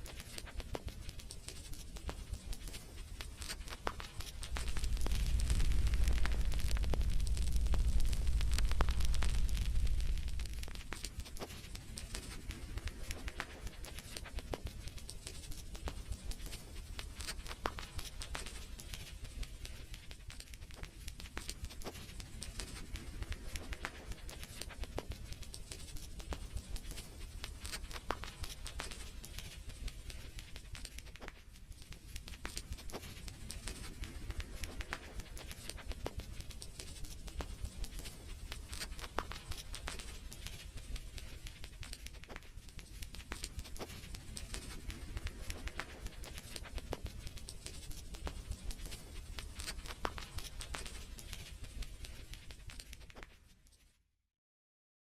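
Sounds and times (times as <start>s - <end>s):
fire crackling in a fireplace: 0.0s - 54.0s.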